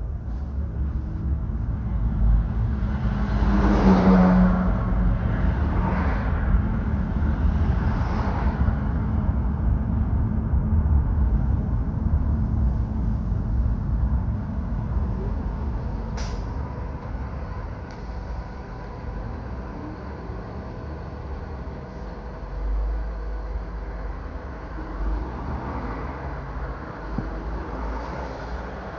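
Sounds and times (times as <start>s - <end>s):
road vehicle rumble: 0.0s - 28.9s.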